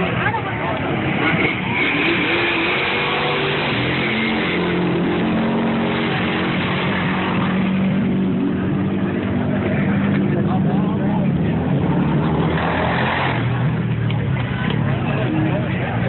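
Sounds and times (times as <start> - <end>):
loud truck engine passing: 0.8 - 14.1.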